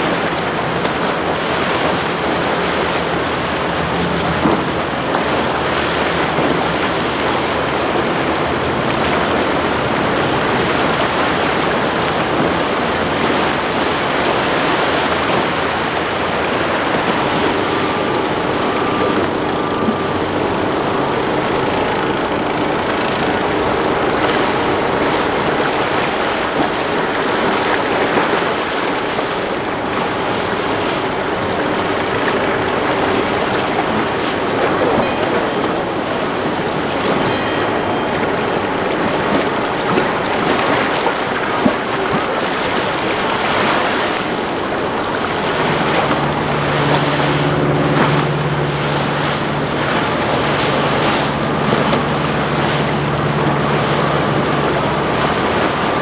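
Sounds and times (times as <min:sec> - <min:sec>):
boat engines running: 0:00.0 - 0:56.0
hull wash and waves: 0:00.0 - 0:56.0.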